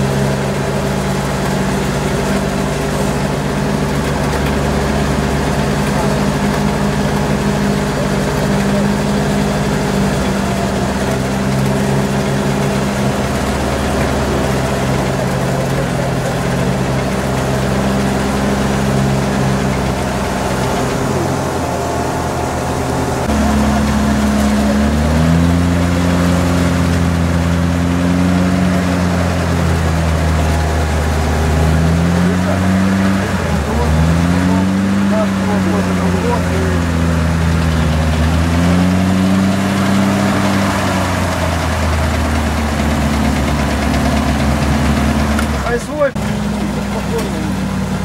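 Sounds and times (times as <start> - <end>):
off-road vehicle engine revving: 0.0 - 48.0.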